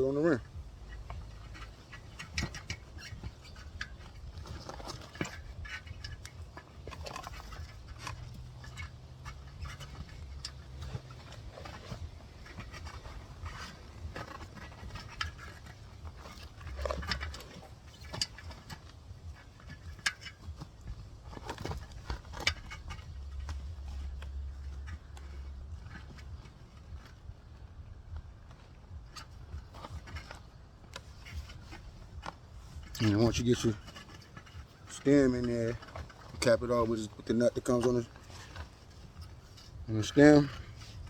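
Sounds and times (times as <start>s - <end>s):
low steady hum: 0.0s - 41.0s
rubber tyre rubbing and scraping: 0.0s - 41.0s.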